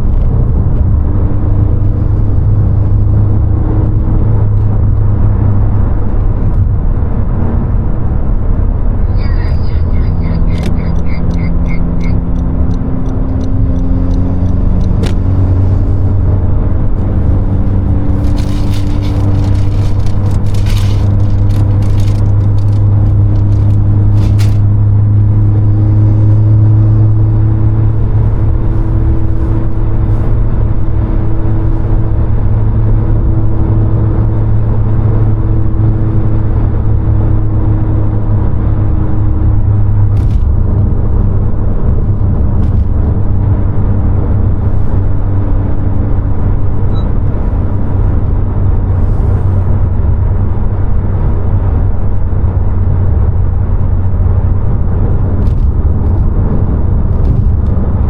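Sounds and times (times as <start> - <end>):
car engine cruising: 0.0 - 58.0
road noise: 0.0 - 58.0.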